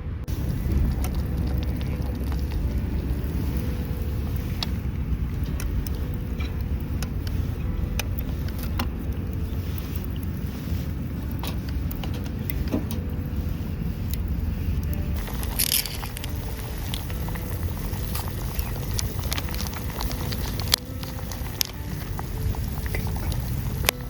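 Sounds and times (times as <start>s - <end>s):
wind rumble on microphone: 0.0s - 24.0s
campfire crackling and popping: 0.3s - 24.0s.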